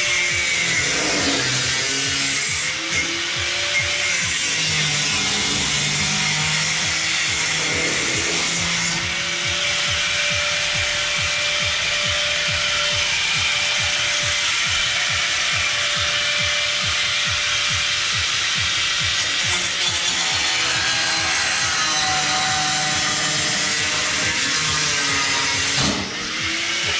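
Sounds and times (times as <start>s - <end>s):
background music with low beat: 0.0s - 26.9s
power saw cutting sheet steel: 0.0s - 26.9s.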